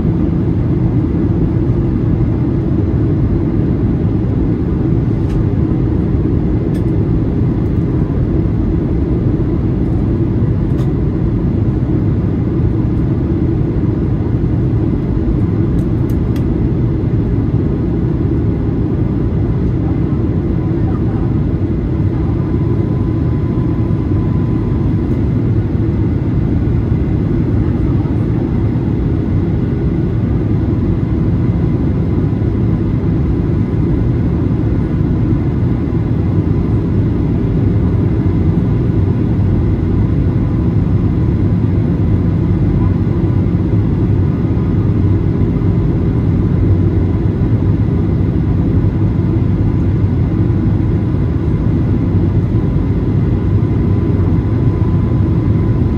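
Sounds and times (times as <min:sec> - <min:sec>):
airplane cabin engine roar: 0:00.0 - 0:55.9.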